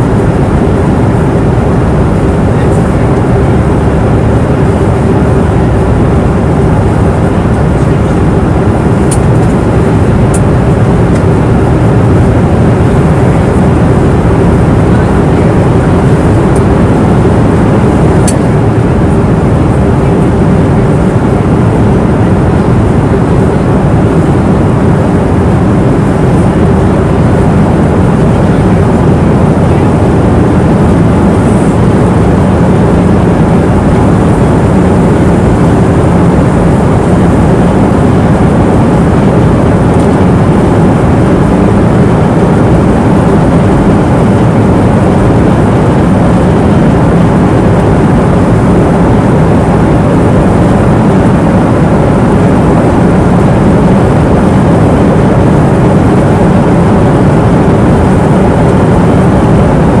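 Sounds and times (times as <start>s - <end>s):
airplane cabin engine rush: 0.0s - 60.0s.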